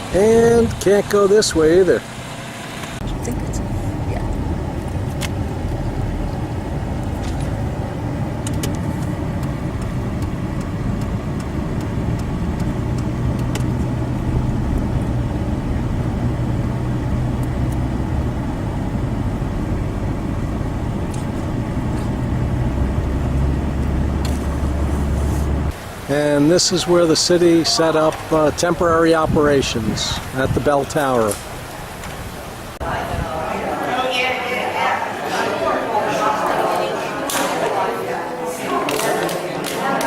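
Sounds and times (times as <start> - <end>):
truck engine and road rumble: 0.0 - 35.9.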